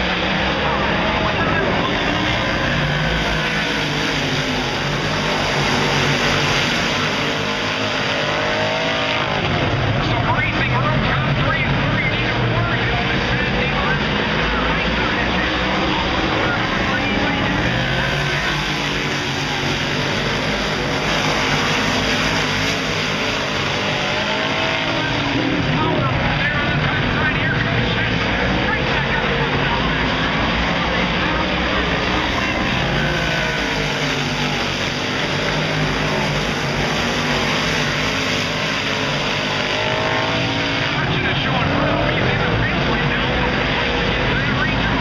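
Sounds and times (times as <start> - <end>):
race car engines roaring: 0.0 - 45.0.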